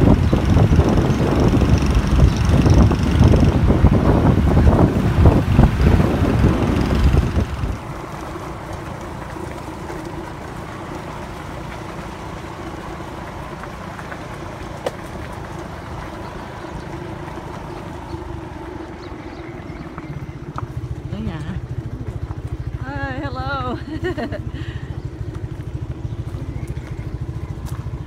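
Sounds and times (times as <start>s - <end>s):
vehicle engine drone: 0.0s - 28.0s
wind buffeting microphone: 0.0s - 28.0s.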